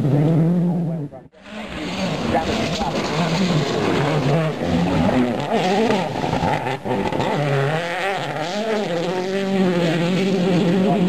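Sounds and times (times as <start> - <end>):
rally car engines at full throttle: 0.0 - 11.0.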